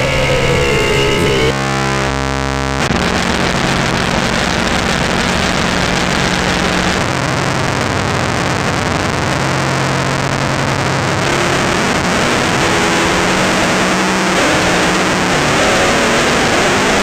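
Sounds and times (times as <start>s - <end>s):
distorted bass guitar: 0.0s - 17.0s.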